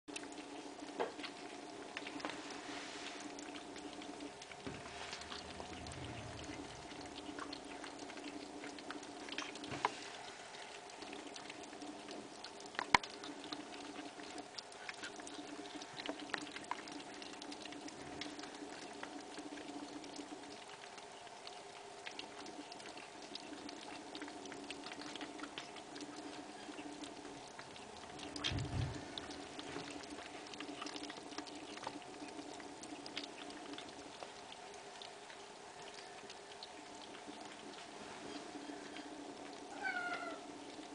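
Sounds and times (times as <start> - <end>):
kittens chewing food: 0.1 - 40.9
steady low hum: 0.1 - 40.9.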